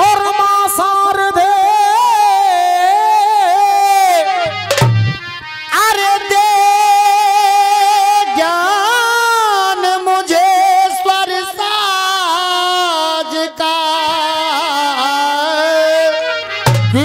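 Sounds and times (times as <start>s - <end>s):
high voice singing folk melody: 0.0s - 4.7s, 5.3s - 17.0s.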